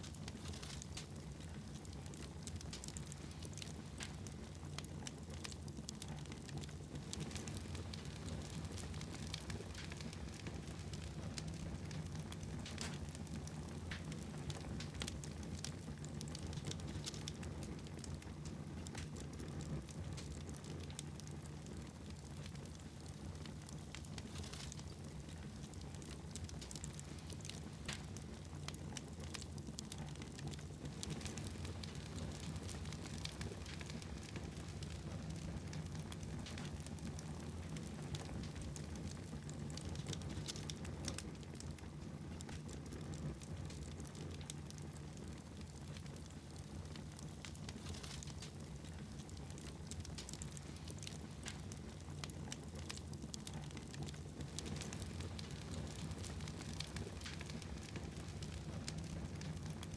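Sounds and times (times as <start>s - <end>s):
fireplace fire crackling: 0.0s - 59.9s
low rumble of flames: 0.0s - 59.9s.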